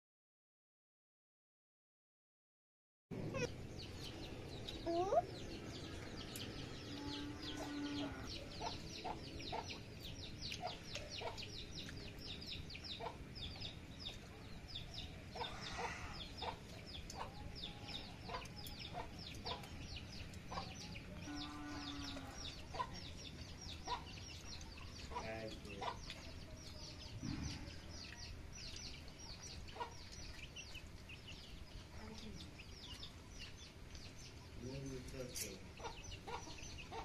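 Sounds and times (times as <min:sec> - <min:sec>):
chickens clucking: 0:03.2 - 0:37.0.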